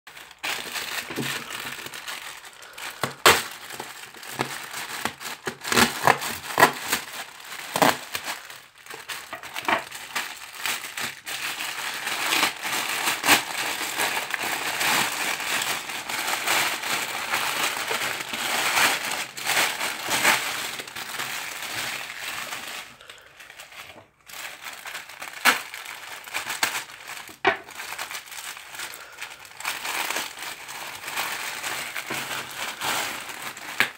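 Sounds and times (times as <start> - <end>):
plastic bag crinkling: 0.1 - 33.9.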